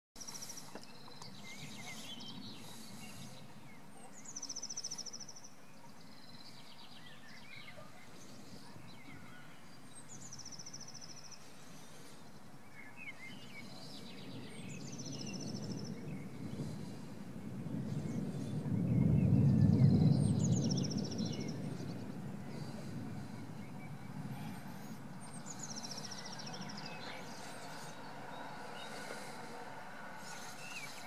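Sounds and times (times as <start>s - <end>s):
songbirds singing: 0.2s - 31.0s.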